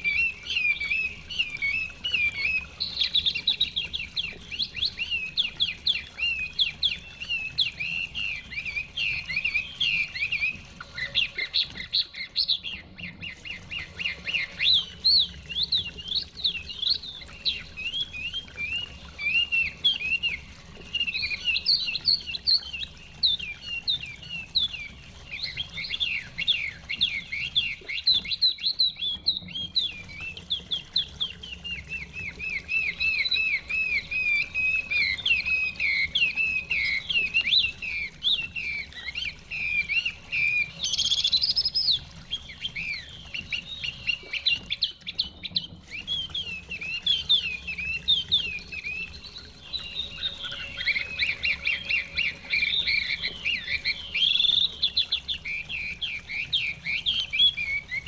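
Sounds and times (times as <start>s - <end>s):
songbird whistling song: 0.0s - 58.0s.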